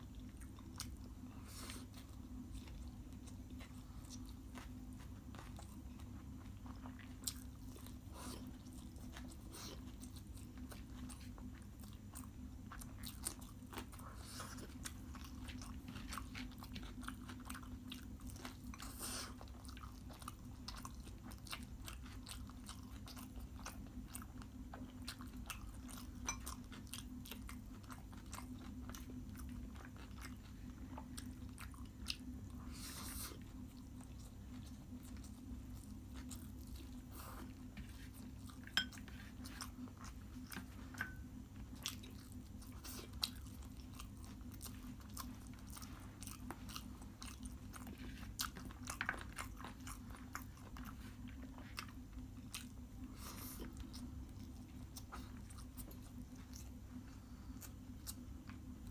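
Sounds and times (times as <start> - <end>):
person chewing food: 0.0 - 58.9
steady low hum: 0.0 - 58.9.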